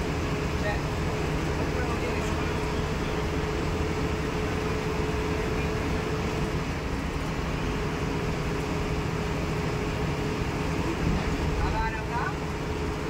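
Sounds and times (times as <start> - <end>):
bus rumbling in tunnel: 0.0 - 13.0.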